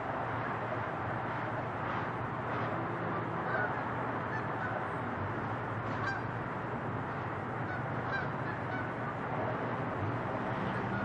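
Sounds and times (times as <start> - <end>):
distant jet engines rumbling: 0.1 - 11.0.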